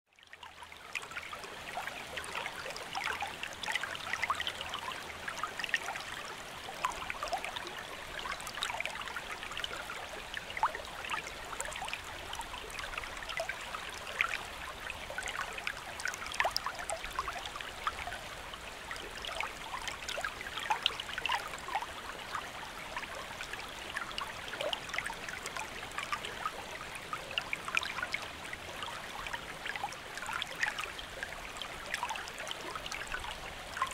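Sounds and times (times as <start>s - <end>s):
stream water running: 0.1s - 33.9s.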